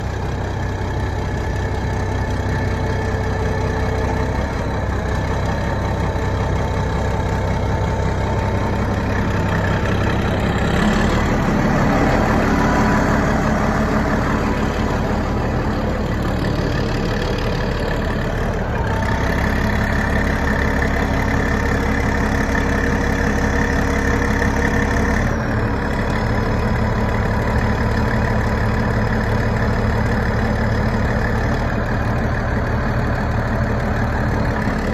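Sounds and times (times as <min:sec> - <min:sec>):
bulldozer diesel engine idling: 0:00.0 - 0:34.9.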